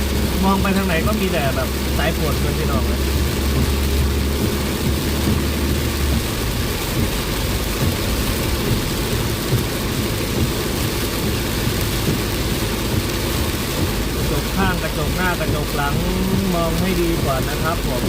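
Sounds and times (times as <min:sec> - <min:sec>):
car engine and road noise: 0:00.0 - 0:18.0
heavy rain on a car: 0:00.0 - 0:18.0.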